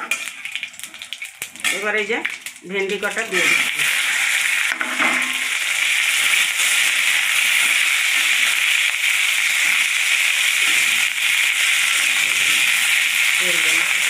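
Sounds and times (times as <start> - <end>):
okra sizzling in hot oil: 0.0 - 14.0.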